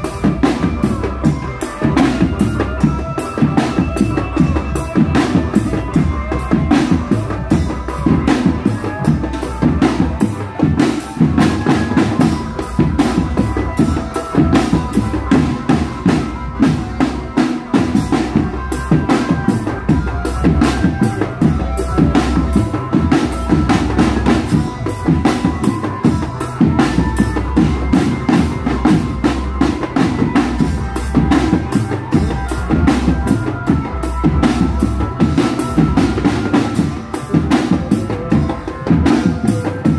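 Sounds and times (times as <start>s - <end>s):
marching drum band: 0.0s - 39.9s
melody over drums: 0.0s - 39.9s.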